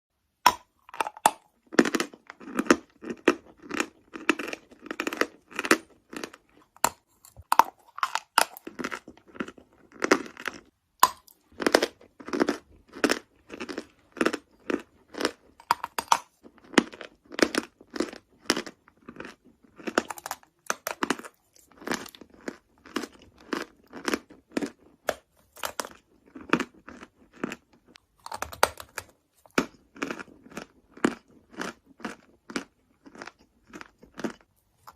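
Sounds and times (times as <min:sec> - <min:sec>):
crunching and chewing chalk: 0:00.2 - 0:34.9.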